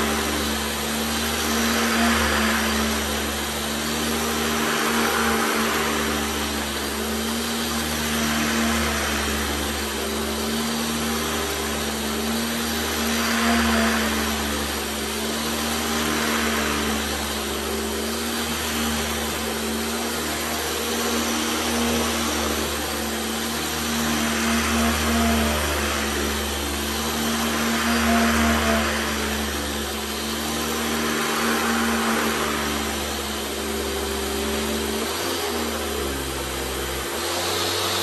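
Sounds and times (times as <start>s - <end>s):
vacuum cleaner motor hum: 0.0s - 38.0s
vacuum nozzle rushing on carpet: 0.0s - 38.0s.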